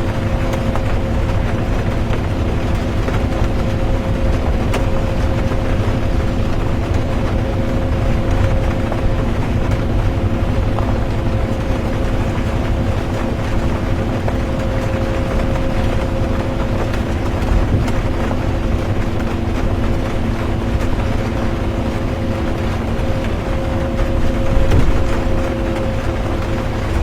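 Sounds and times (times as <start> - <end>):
bus engine and road rumble: 0.0 - 27.0
drivetrain hum: 0.0 - 27.0.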